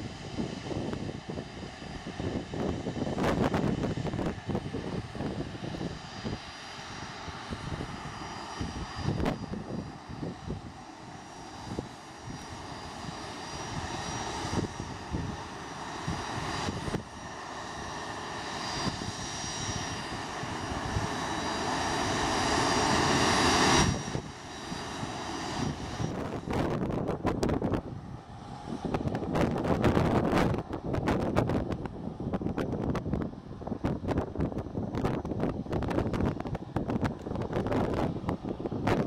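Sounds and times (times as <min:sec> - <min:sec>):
jet engines whining: 0:00.0 - 0:39.0.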